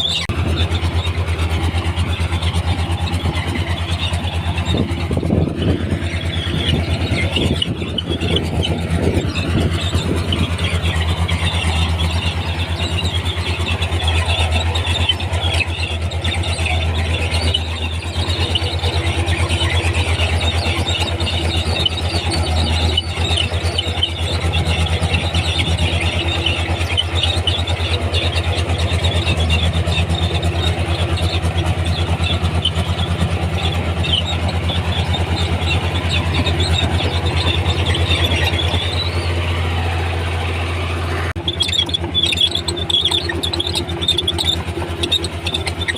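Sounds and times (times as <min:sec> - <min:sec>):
bulldozer diesel engine: 0:00.0 - 0:45.9
steel tracks squeaking: 0:00.0 - 0:45.9.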